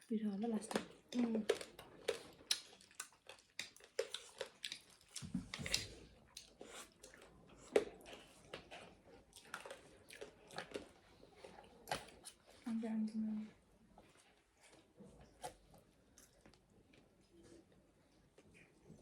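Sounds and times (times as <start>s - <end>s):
person chewing food: 0.7s - 12.7s, 14.0s - 19.0s.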